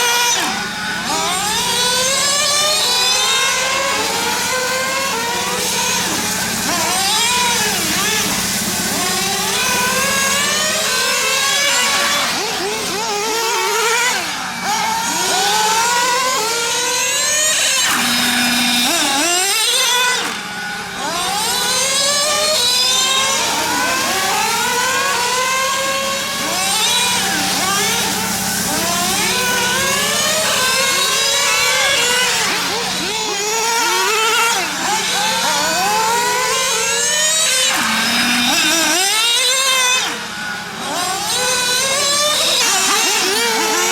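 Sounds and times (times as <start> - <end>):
rc car engines revving: 0.0 - 43.9.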